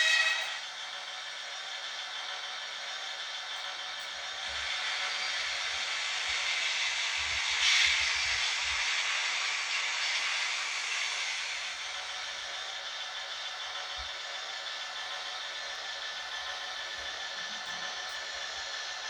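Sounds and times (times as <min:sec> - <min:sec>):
model train whirring on track: 0:00.0 - 0:19.0.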